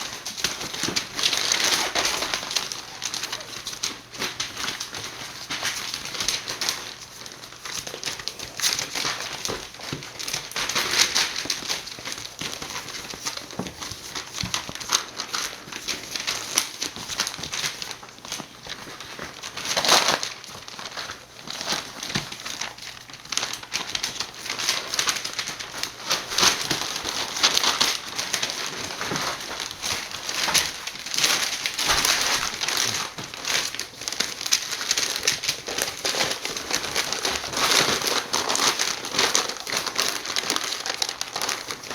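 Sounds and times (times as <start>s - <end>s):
puppies scuffling: 0.0s - 41.9s
rustling and crinkling: 0.0s - 41.9s.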